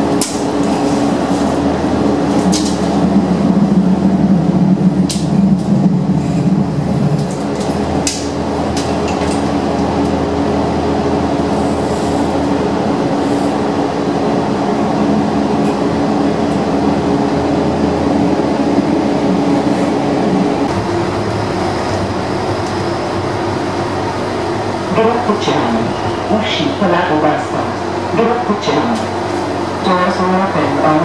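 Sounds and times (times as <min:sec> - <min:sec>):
droning hum: 0:00.0 - 0:31.0
train wheels rumbling: 0:00.0 - 0:31.0.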